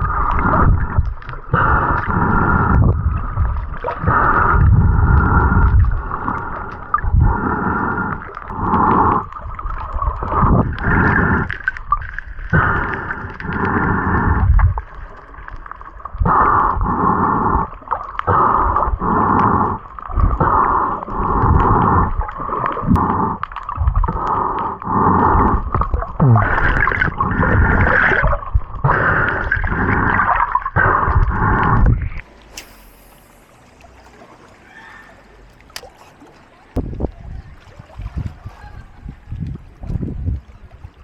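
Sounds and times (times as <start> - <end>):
muffled water gurgling and sloshing: 0.0 - 41.0.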